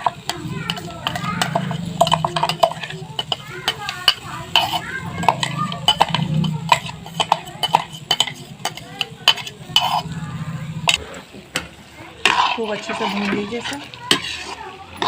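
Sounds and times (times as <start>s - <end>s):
spoon stirring thick paste in pan: 0.0s - 15.0s.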